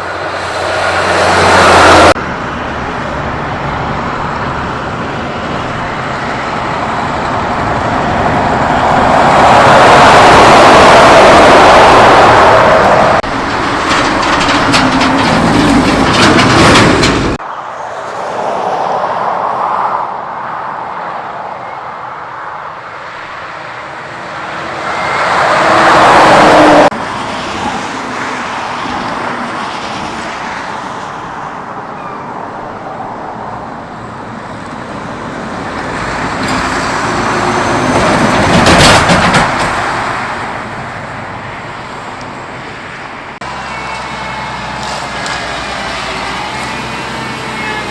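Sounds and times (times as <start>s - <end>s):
trucks passing on road: 0.0s - 47.9s.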